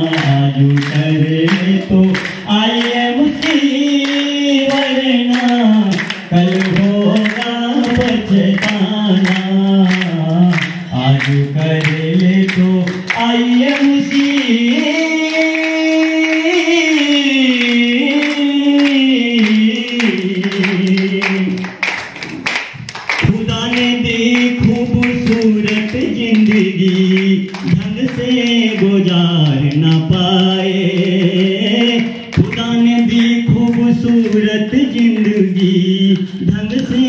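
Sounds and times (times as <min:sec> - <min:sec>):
man singing into microphone: 0:00.0 - 0:22.0, 0:22.8 - 0:37.0.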